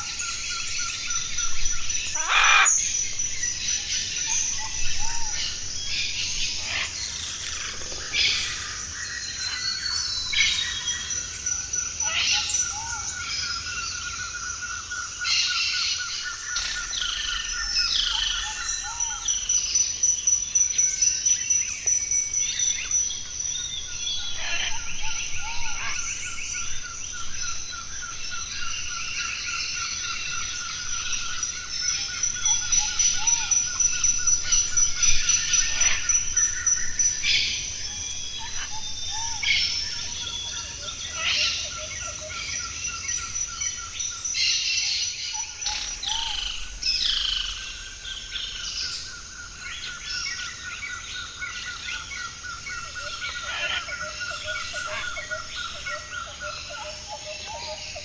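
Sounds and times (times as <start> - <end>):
birds calling and singing: 0.0 - 58.0.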